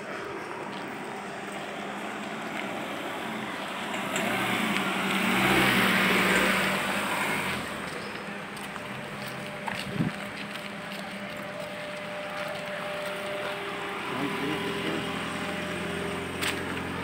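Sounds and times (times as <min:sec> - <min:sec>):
car passing on dirt road: 0:00.0 - 0:17.0.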